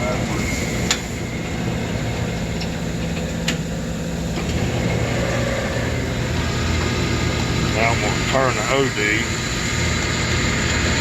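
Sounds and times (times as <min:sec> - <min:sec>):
lathe motor humming: 0:00.0 - 0:11.0.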